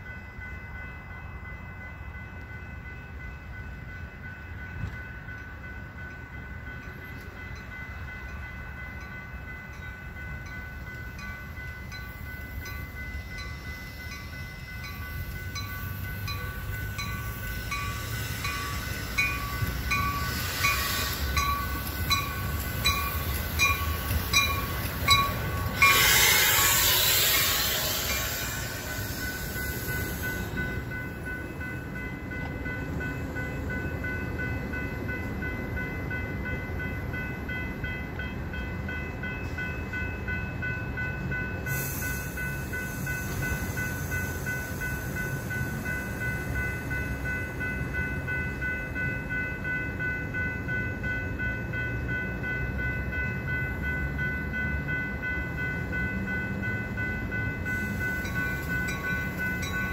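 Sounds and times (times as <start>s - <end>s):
diesel locomotive rumble: 0.0s - 59.9s.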